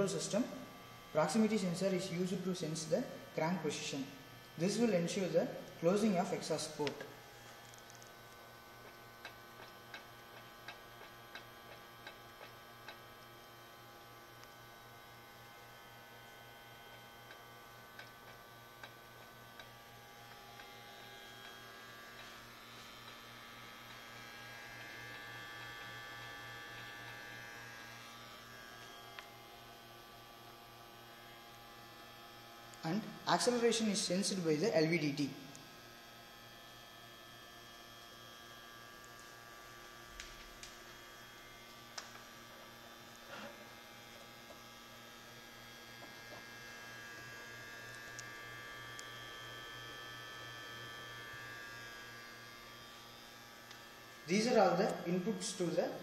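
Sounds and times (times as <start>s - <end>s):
faint pulsing electrical hum: 0.0s - 56.0s.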